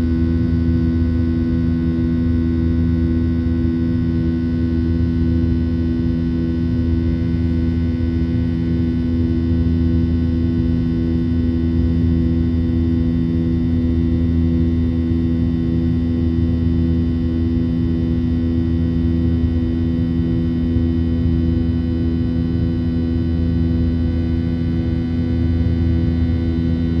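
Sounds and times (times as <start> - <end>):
jet engines droning in cabin: 0.0 - 27.0.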